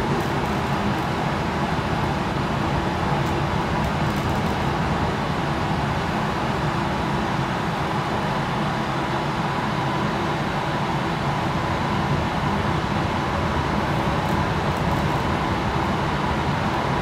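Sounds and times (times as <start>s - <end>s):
gas furnace roaring: 0.0s - 17.0s.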